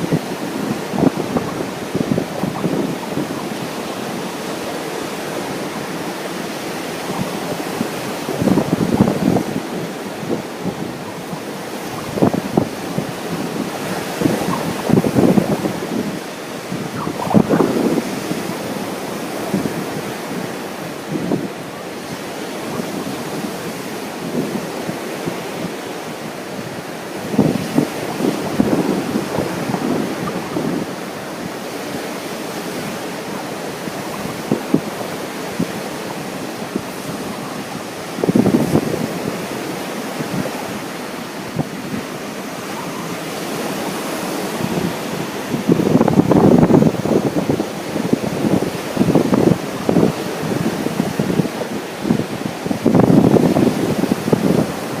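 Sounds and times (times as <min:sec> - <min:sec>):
ocean surf washing onto beach: 0:00.0 - 0:55.0
wind buffeting microphone: 0:00.0 - 0:55.0.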